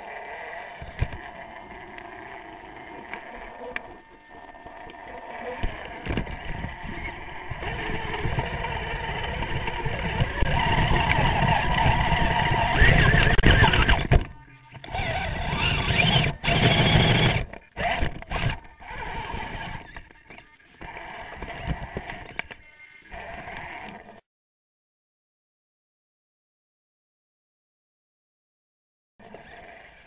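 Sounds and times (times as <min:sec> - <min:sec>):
electric motors whining: 0:00.0 - 0:24.2, 0:29.2 - 0:30.0.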